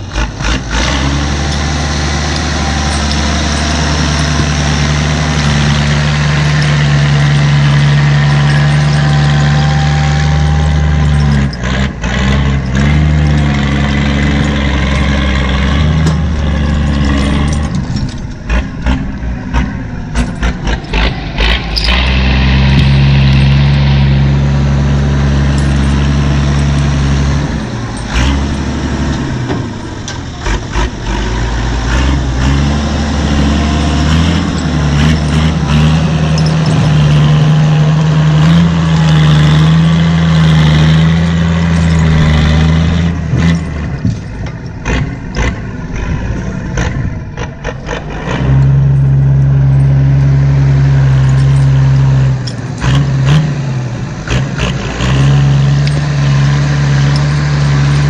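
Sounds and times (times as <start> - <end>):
diesel engine running: 0.0 - 58.0
engine knocks: 0.0 - 58.0.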